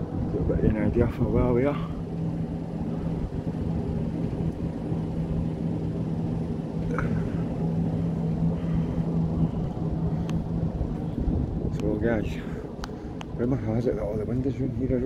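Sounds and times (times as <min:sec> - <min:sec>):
constant hum: 0:00.0 - 0:15.0
low rumble: 0:00.0 - 0:15.0.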